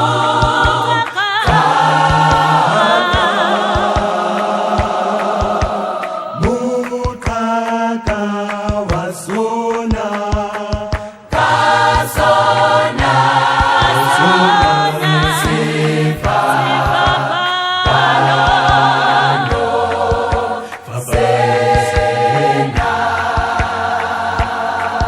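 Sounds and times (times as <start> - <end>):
choir singing a hymn in harmony: 0.0 - 25.0.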